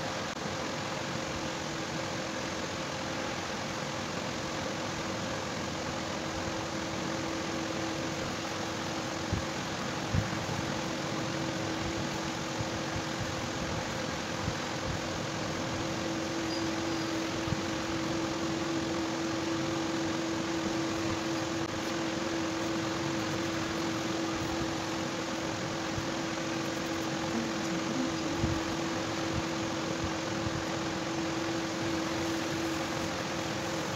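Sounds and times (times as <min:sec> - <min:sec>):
machine hum: 0:00.0 - 0:33.9.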